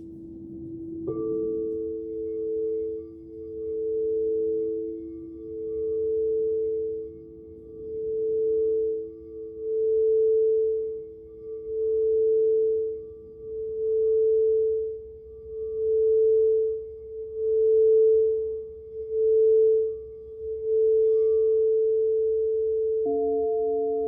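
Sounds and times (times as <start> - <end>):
singing bowl sustained tone: 0.0 - 24.0.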